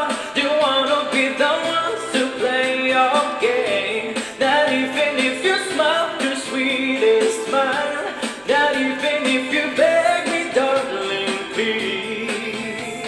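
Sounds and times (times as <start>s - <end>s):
backing track: 0.0s - 13.0s
man singing pop ballad: 0.0s - 13.0s.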